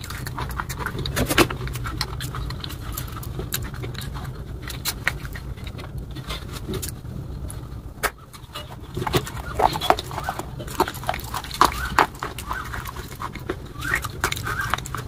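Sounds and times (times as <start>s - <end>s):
chewing crunchy bread: 0.0s - 15.0s.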